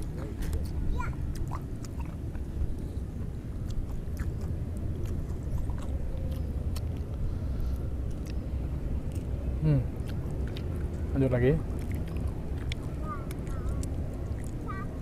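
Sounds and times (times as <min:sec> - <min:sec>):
chewing and biting orange segments: 0:00.0 - 0:11.0, 0:11.6 - 0:15.0
steady low rumble: 0:00.0 - 0:15.0.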